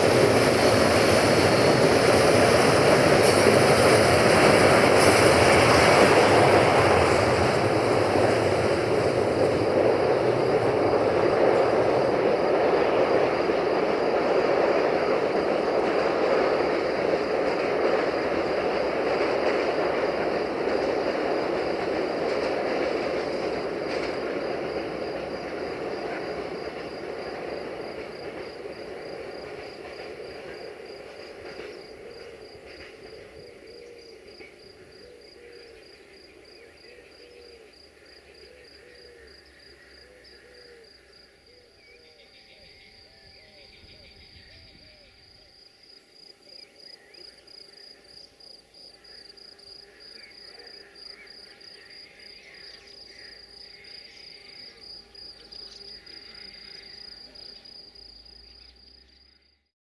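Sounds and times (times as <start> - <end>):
freight train rumble: 0.0 - 59.4
crickets chirping: 0.0 - 59.7.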